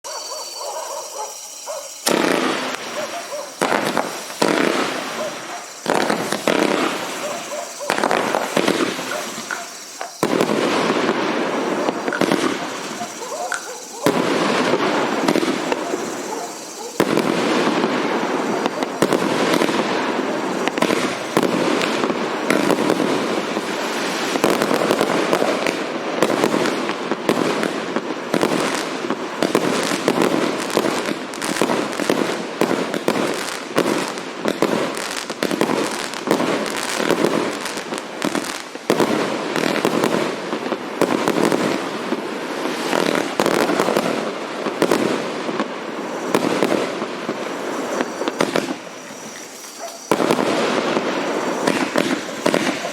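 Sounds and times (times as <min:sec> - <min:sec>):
firework crackling: 0:00.0 - 0:52.9
fireworks barrage: 0:00.0 - 0:52.9.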